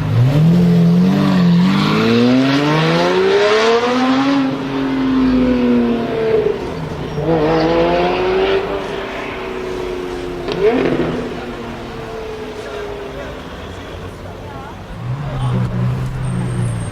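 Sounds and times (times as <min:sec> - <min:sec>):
sports car engine accelerating: 0:00.0 - 0:16.9.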